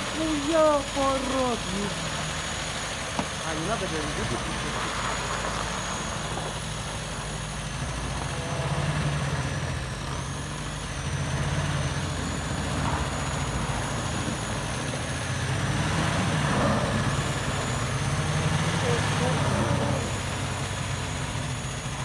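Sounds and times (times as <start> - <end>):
car engine running at low revs: 0.0 - 22.0.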